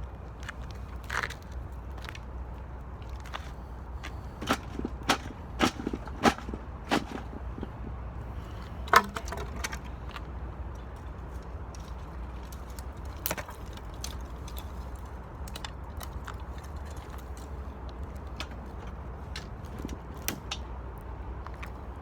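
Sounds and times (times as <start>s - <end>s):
steady low rumble: 0.0s - 22.0s
dry wood cracking and snapping: 3.0s - 21.9s.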